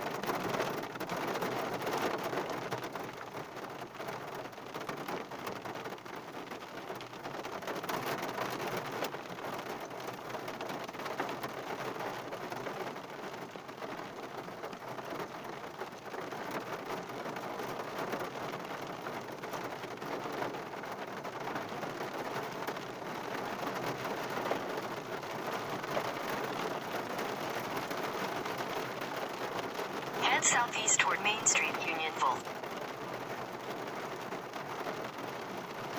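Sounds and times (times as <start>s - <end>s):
heavy rain on car roof: 0.0s - 35.9s.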